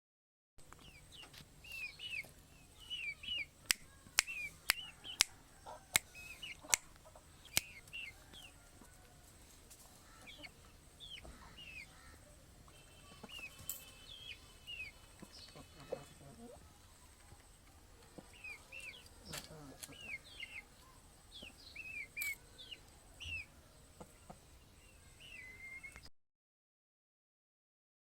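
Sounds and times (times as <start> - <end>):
chickens chirping: 0.7 - 26.1.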